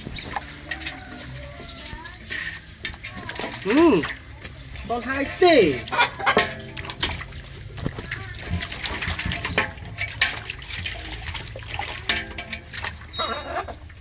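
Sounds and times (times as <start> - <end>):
water splashing in metal basin: 0.0 - 14.0.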